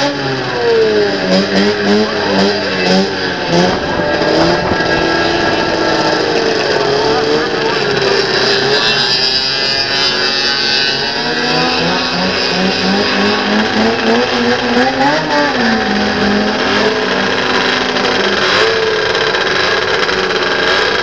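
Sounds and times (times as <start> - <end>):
snowmobile engines at high revs: 0.0 - 21.0.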